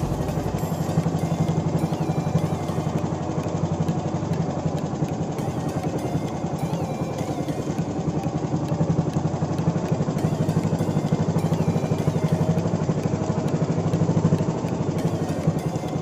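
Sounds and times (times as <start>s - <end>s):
boat engine chugging: 0.0s - 16.0s.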